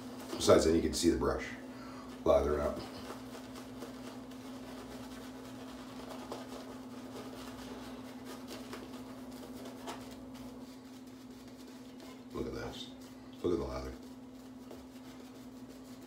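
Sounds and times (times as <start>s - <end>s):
shaving brush swishing: 0.0s - 16.0s.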